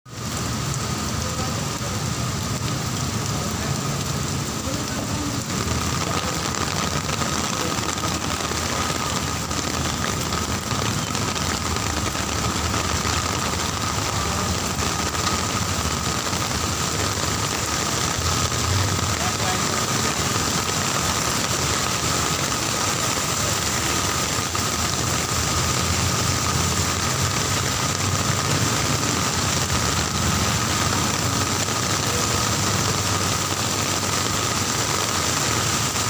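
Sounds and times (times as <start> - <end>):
heavy rain hissing: 0.1 - 36.0
traffic rumble: 0.1 - 36.0.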